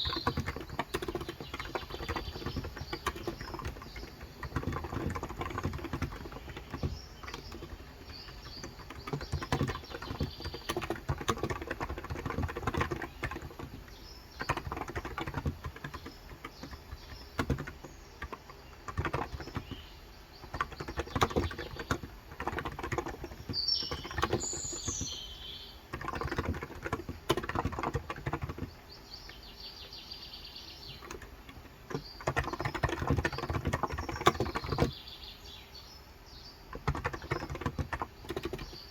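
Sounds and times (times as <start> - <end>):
keyboard typing: 0.0 - 19.8, 20.4 - 28.8, 31.0 - 34.9, 36.7 - 38.9
bird chirping: 0.0 - 38.9.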